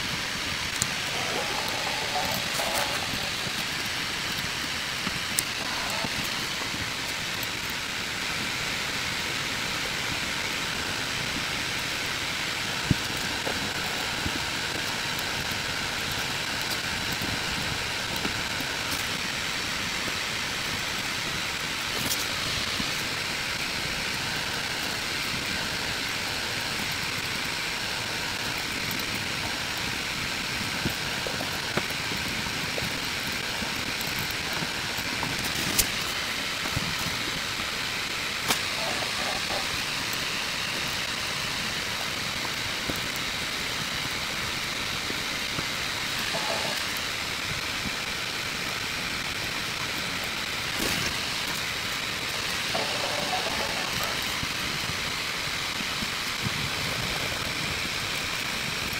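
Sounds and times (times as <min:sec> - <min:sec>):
steady hiss: 0:00.0 - 0:58.9.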